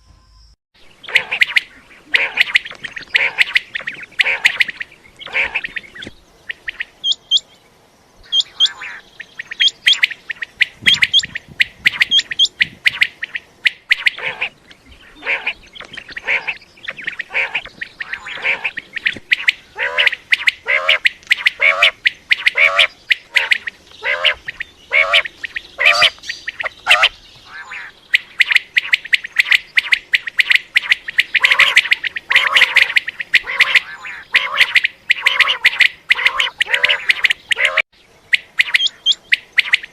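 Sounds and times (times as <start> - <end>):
quail calling: 0.8 - 7.5, 8.2 - 39.9.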